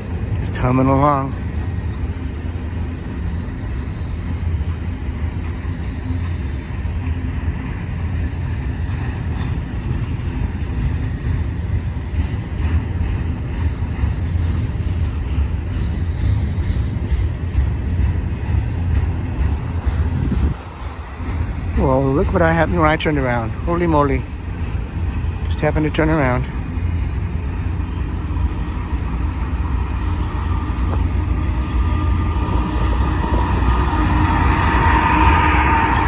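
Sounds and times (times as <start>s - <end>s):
clicks from passing train cars: 0.0s - 35.9s
freight train rumbling past: 0.0s - 36.0s.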